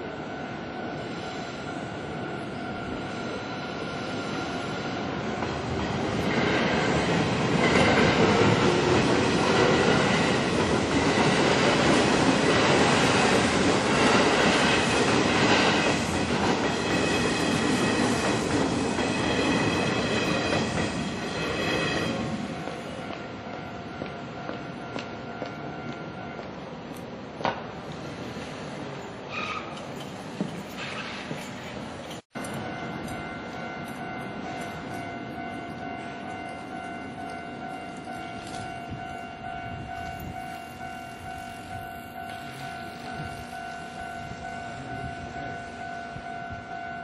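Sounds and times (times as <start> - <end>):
level crossing warning bell: 0.0 - 5.4, 7.0 - 27.2, 31.4 - 47.0
electric train rumbling and whining: 0.0 - 47.0.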